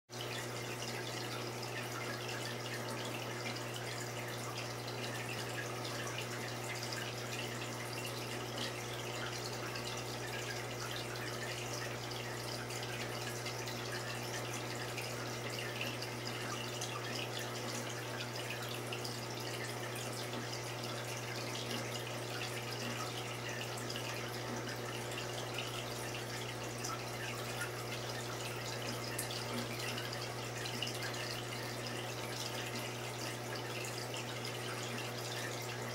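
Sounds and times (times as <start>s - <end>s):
aquarium water trickling: 0.1s - 35.9s.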